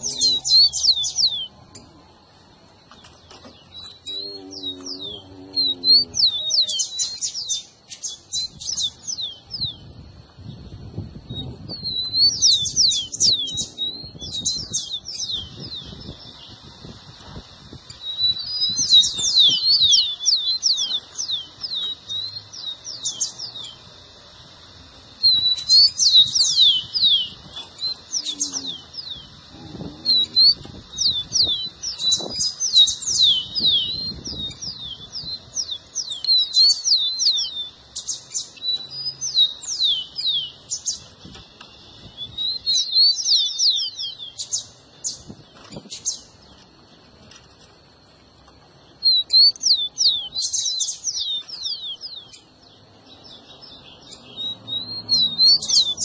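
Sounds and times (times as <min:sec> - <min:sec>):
sparrow singing: 0:00.0 - 0:47.0, 0:48.7 - 0:56.0.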